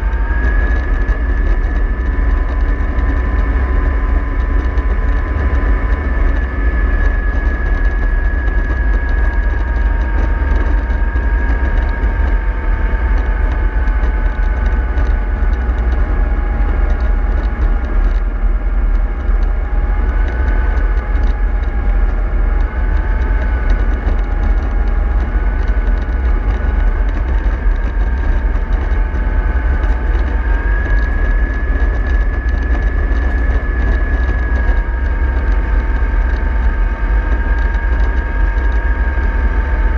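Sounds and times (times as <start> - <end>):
bus engine rumble and whine: 0.0 - 39.9.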